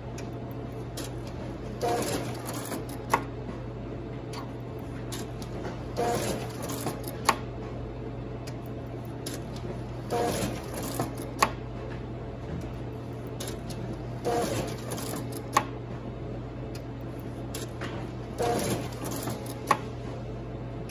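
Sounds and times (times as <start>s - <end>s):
printer motor hum: 0.0s - 20.9s.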